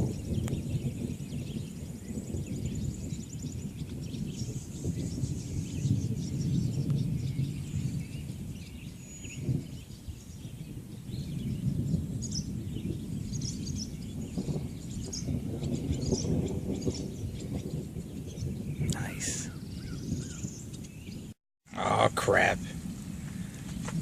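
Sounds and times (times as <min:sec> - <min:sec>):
birds chirping: 0:00.0 - 0:24.0
thunder rumbling: 0:00.0 - 0:24.0.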